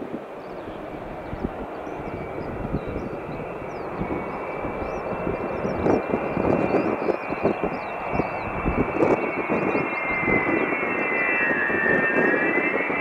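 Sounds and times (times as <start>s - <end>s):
high jet whine: 0.0s - 13.0s
jet engines running: 0.0s - 13.0s.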